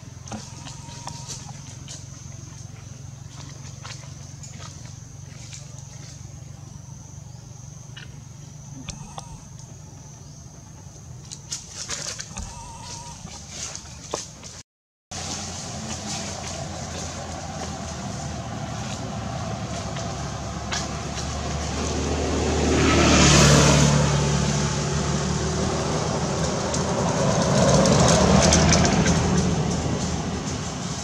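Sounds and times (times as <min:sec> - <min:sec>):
vehicle engine humming: 0:00.0 - 0:31.0
vehicles passing: 0:00.0 - 0:31.0.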